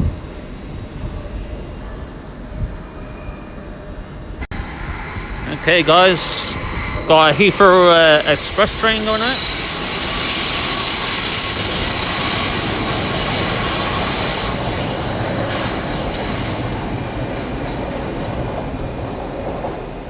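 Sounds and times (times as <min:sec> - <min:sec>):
rumble of wheels on track: 0:00.0 - 0:20.0
train wheels squealing on rails: 0:00.0 - 0:20.0.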